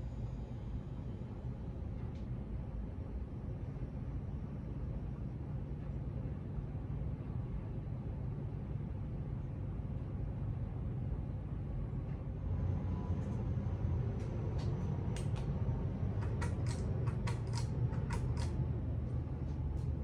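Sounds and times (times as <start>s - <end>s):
ceiling fan whoosh and hum: 0.0s - 20.0s.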